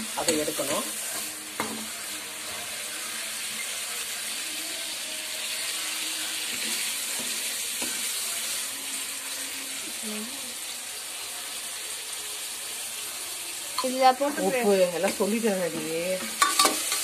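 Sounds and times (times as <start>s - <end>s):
prawns sizzling in hot oil: 0.0s - 17.0s.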